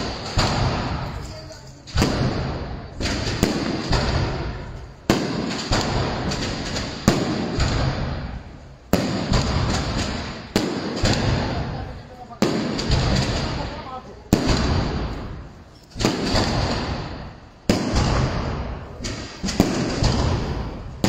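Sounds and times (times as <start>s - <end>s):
fireworks bangs with rumble: 0.0s - 21.0s.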